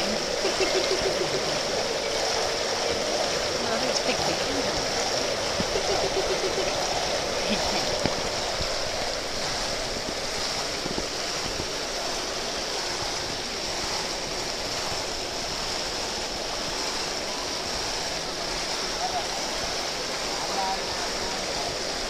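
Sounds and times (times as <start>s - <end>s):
fish churning water surface: 0.0s - 22.0s
fountain jets splashing water: 0.0s - 22.0s.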